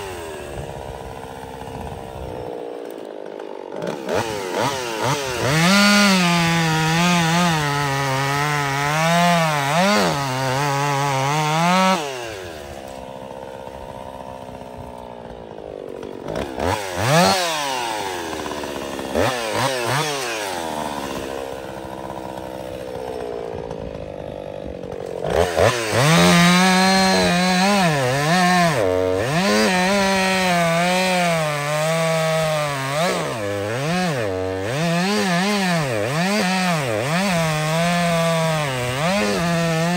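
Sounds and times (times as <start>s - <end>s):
chainsaw cutting wood: 0.0s - 39.9s
chainsaw throttle blips: 0.0s - 39.9s.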